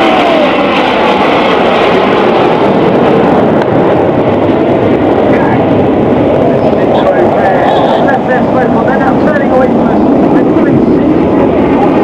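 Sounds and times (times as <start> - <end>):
jets flying low pass: 0.0 - 12.0.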